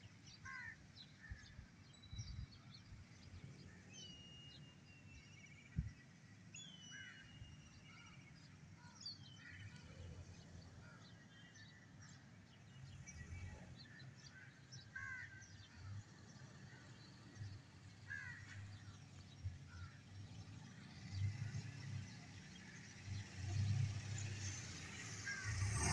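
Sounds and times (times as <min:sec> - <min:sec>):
birds chirping: 0:00.3 - 0:25.9.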